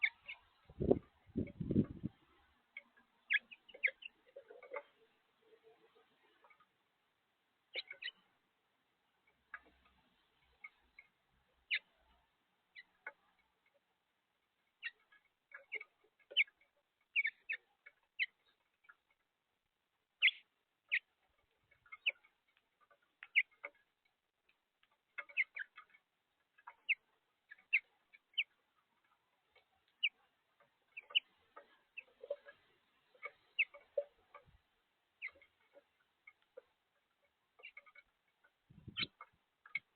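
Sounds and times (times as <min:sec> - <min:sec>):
finches chirping: 0:00.0 - 0:06.7, 0:07.6 - 0:08.4, 0:09.3 - 0:13.8, 0:14.7 - 0:19.1, 0:20.2 - 0:23.9, 0:25.1 - 0:34.6, 0:35.2 - 0:39.9.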